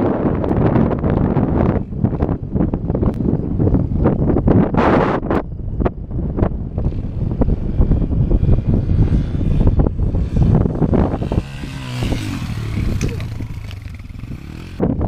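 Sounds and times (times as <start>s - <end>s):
dirt bike engine: 0.0s - 15.0s
wind buffeting microphone: 0.0s - 15.0s.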